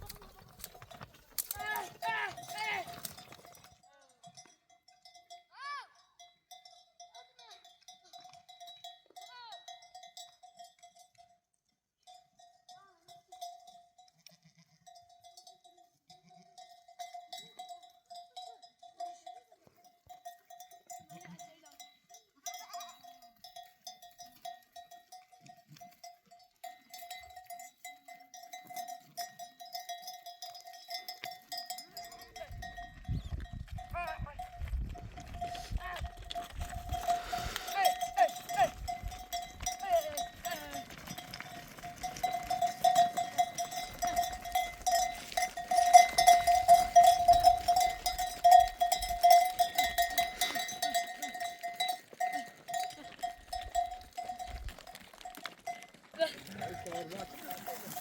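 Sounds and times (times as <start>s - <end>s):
sheep and goats bleating: 0.0s - 3.6s, 12.7s - 58.0s
animal bells ringing: 0.0s - 58.0s.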